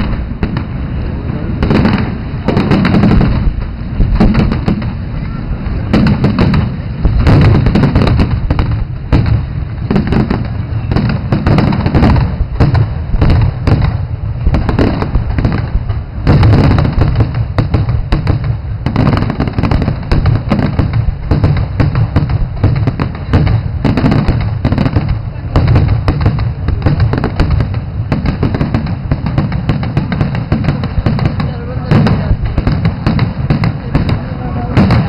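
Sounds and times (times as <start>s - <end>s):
fireworks bursts and crackling: 0.0s - 35.0s
heavy firework booms: 0.0s - 35.0s.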